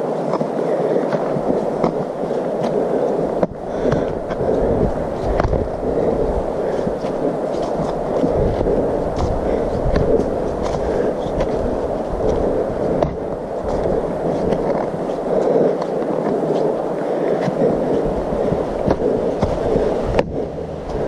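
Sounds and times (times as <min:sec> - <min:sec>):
rumbling rustle: 0:00.1 - 0:21.0.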